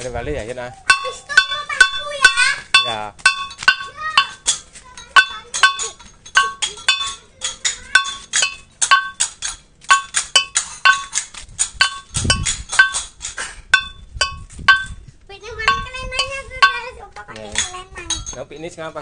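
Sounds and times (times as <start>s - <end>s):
metal percussion striking: 0.9s - 18.9s.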